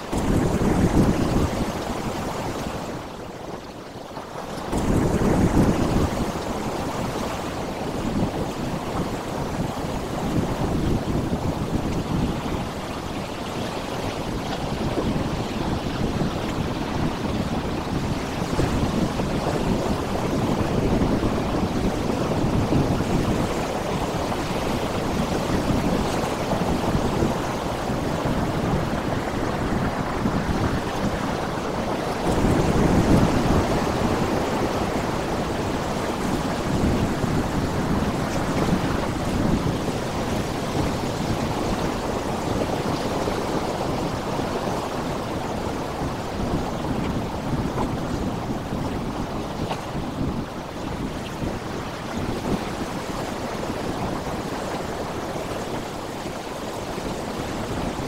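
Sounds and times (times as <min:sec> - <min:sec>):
waves breaking on rocky shore: 0:00.0 - 0:58.0.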